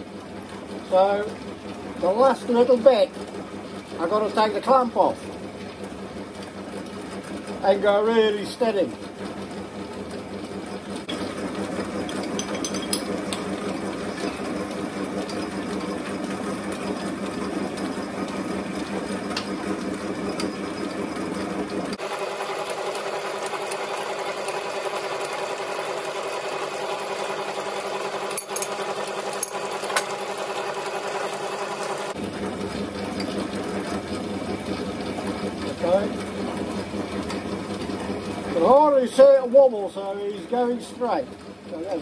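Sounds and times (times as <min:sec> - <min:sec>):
lathe mechanical hum: 0:00.0 - 0:42.0.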